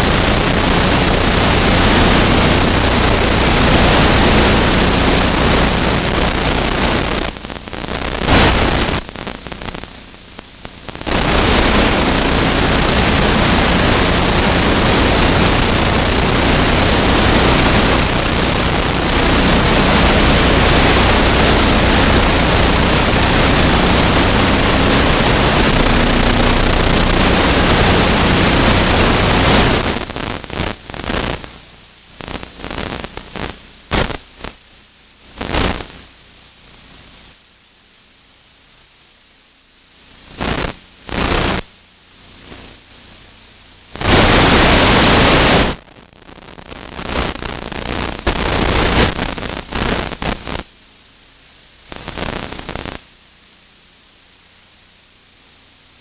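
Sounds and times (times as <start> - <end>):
loud static hiss: 0.0 - 56.0.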